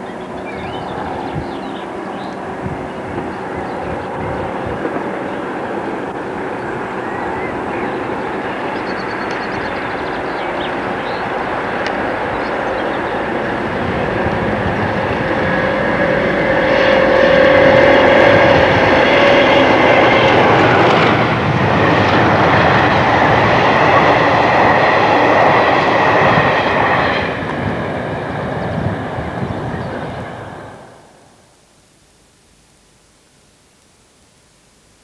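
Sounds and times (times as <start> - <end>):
locomotive whine: 0.0 - 31.6
train rumble: 0.0 - 31.6.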